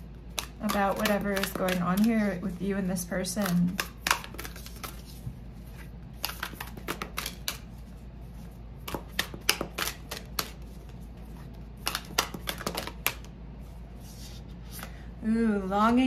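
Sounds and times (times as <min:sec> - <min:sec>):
cards being shuffled: 0:00.1 - 0:15.0.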